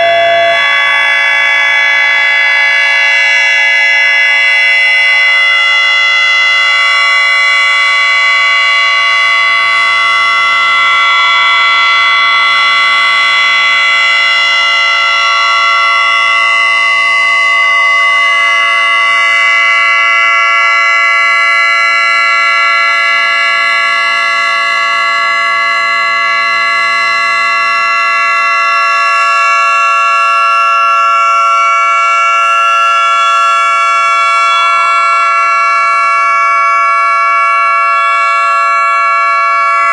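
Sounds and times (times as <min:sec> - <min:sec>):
rotating siren steady chord: 0:00.0 - 0:39.9.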